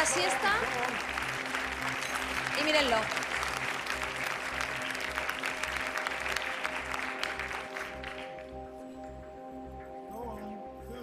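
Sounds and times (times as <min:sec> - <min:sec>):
studio audience applauding: 0:00.0 - 0:08.9
background music with steady beat: 0:00.0 - 0:11.0.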